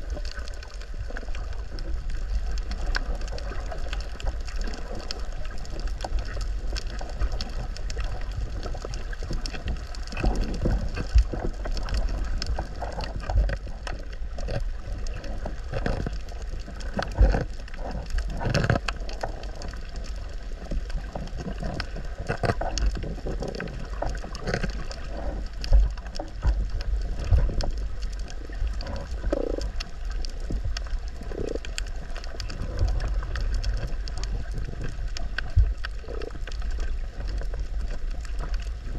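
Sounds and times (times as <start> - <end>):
underwater clicks and knocks: 0.0 - 38.9
underwater rumble of moving water: 0.0 - 38.9.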